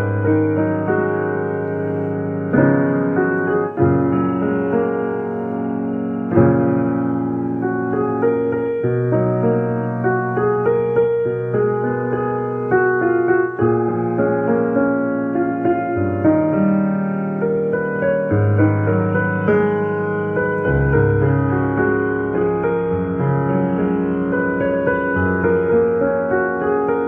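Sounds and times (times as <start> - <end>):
piano melody over chords: 0.0 - 27.0.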